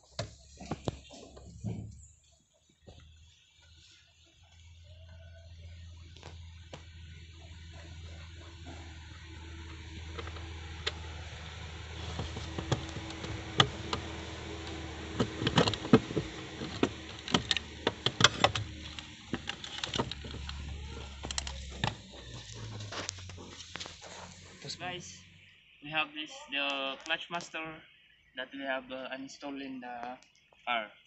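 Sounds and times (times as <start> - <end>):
low hum: 0.0 - 29.5.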